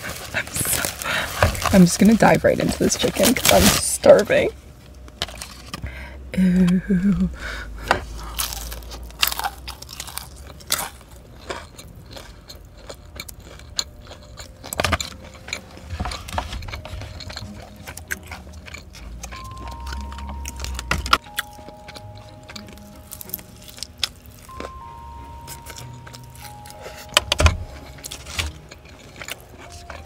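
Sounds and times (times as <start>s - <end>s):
chewing crispy fried chicken: 0.0s - 3.8s, 8.1s - 30.0s.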